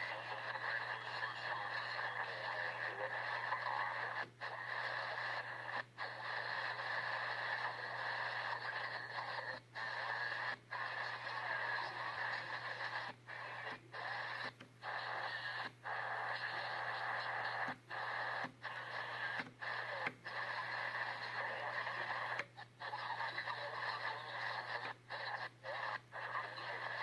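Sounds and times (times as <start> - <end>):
rasping radio signal: 0.0 - 27.0.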